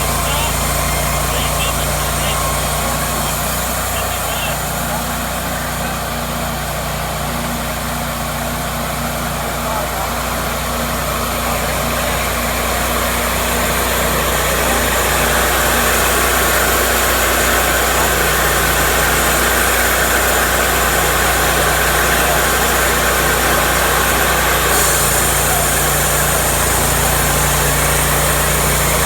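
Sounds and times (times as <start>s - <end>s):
sawmill engine running: 0.0s - 29.0s.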